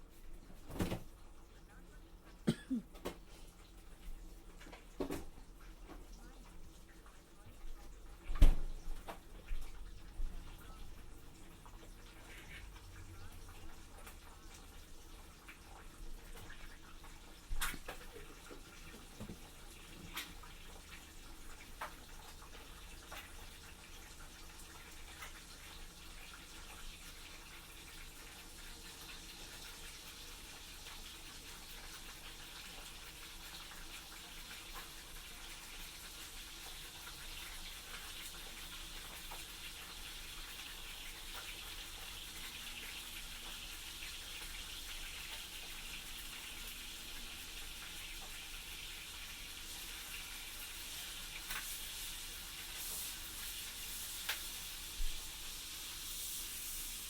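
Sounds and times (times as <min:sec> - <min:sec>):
food sizzling in a pan: 0:08.9 - 0:57.0.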